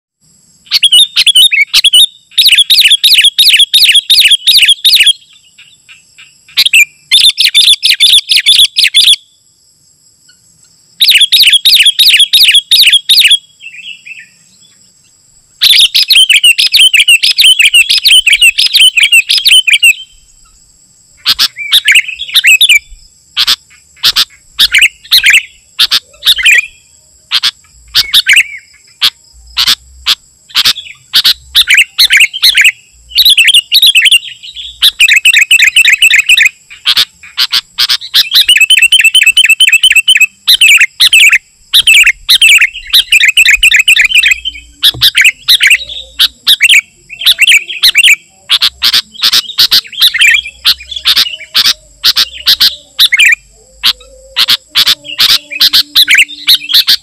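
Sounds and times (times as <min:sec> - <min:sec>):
bird chattering chirps: 0:00.7 - 0:09.2, 0:11.0 - 0:14.8, 0:15.6 - 0:20.6, 0:21.2 - 0:57.0.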